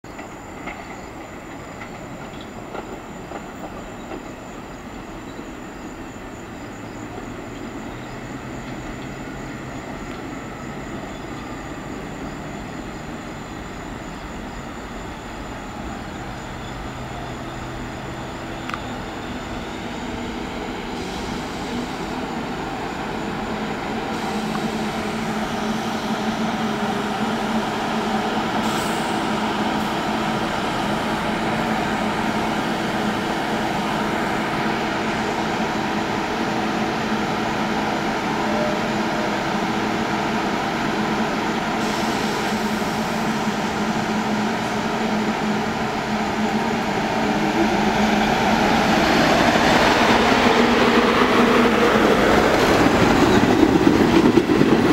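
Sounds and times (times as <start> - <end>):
electric train humming: 0.1 - 54.9.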